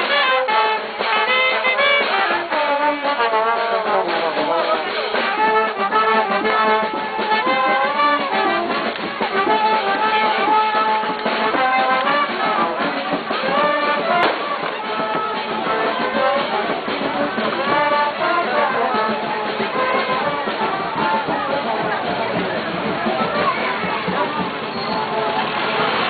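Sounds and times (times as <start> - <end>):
street band playing: 0.0 - 26.0.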